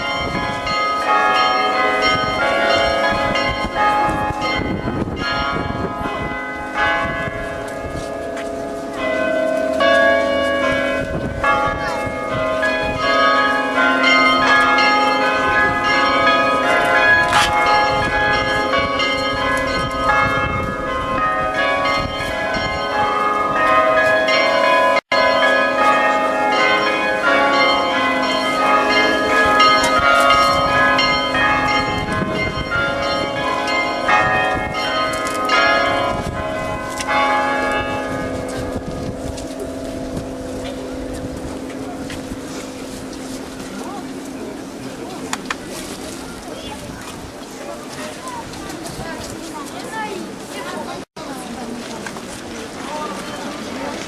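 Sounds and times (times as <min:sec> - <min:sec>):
large low bells humming: 0:00.0 - 0:49.2.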